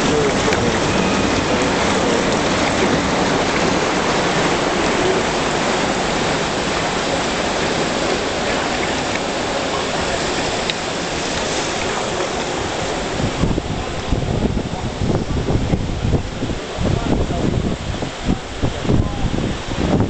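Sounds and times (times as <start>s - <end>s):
whitewater rushing: 0.0s - 20.0s.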